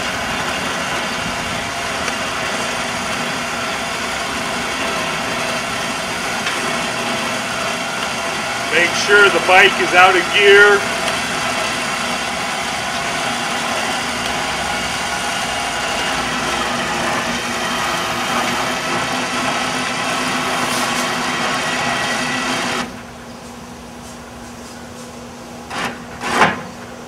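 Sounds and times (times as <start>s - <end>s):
truck engine idling: 0.0s - 23.2s
winch motor running: 0.0s - 23.2s.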